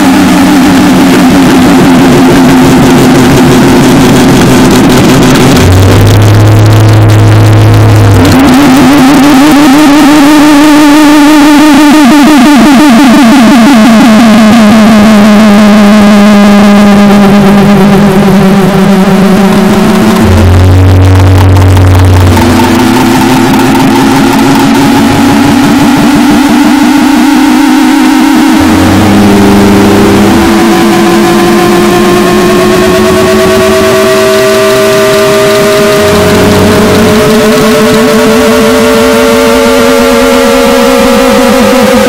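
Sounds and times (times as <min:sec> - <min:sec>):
droning tones: 0:00.0 - 0:42.0
harsh noise wall: 0:00.0 - 0:42.0
low hum: 0:00.0 - 0:42.0
warbling tone: 0:00.0 - 0:42.0.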